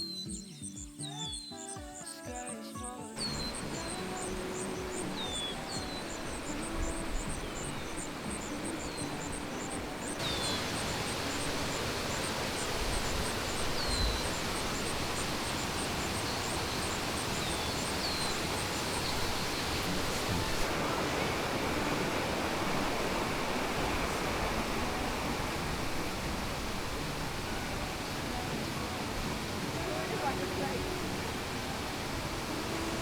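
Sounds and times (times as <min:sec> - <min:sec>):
birds whistling: 0:00.0 - 0:33.0
waterfall roaring: 0:03.2 - 0:33.0.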